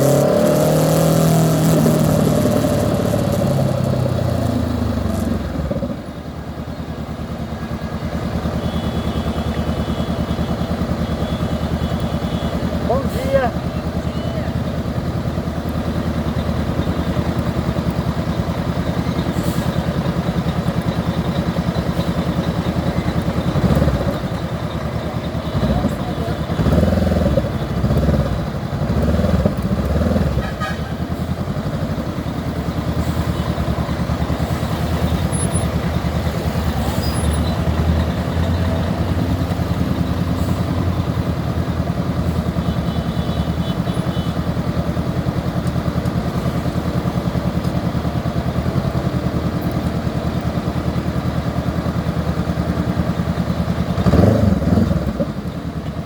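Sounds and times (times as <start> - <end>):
motorcycle engine running: 1.5 - 19.2, 19.9 - 56.0.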